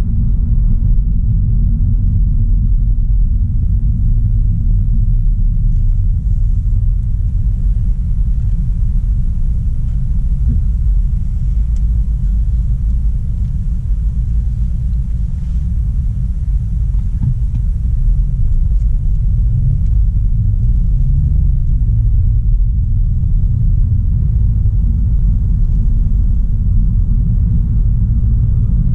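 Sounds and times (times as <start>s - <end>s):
car driving rumble: 0.0s - 28.9s.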